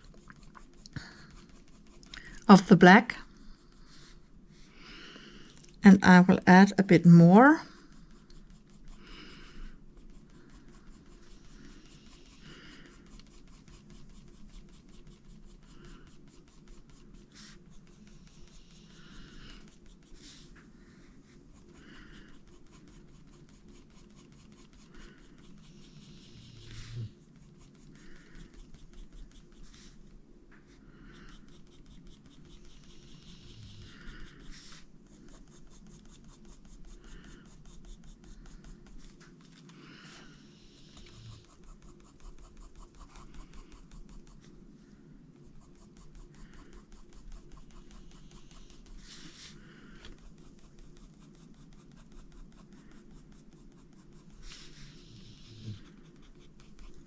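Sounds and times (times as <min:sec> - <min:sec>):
pencil scratching on paper: 0:00.0 - 0:04.7, 0:05.3 - 0:57.0.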